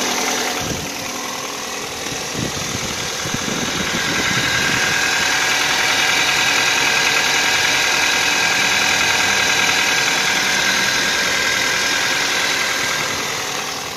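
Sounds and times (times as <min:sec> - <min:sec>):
car engine idling: 0:00.0 - 0:13.9
high transmission whine: 0:00.0 - 0:13.9.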